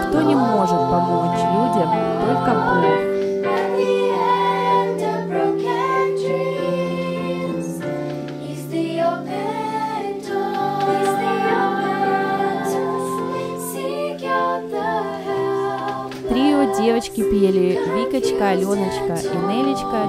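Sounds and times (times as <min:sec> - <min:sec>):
group singing slow song: 0:00.0 - 0:20.0.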